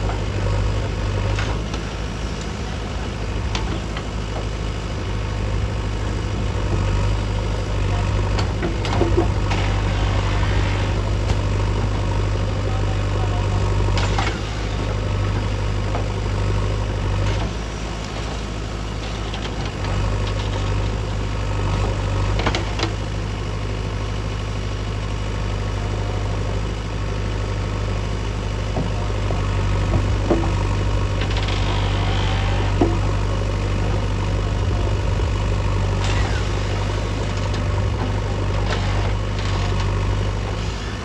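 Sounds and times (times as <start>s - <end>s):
diesel engine rumbling: 0.0s - 41.0s.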